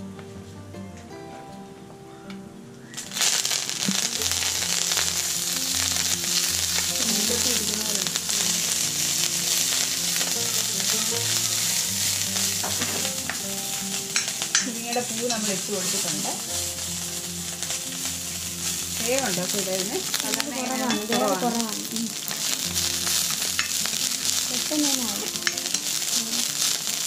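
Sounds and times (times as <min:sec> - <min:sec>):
soft background music: 0:00.0 - 0:27.0
frying sizzle in oil: 0:02.8 - 0:27.0.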